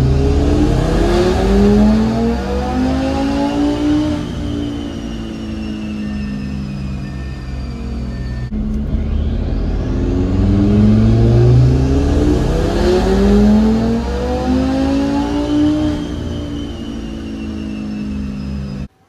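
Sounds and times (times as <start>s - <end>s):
car engine revving at full throttle: 0.0s - 18.9s.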